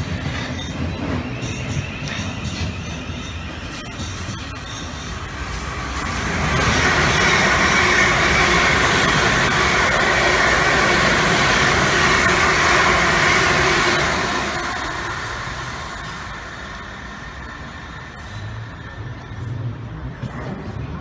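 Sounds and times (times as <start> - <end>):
low train rumble: 0.0 - 21.0
train wheels on rails: 0.0 - 21.0.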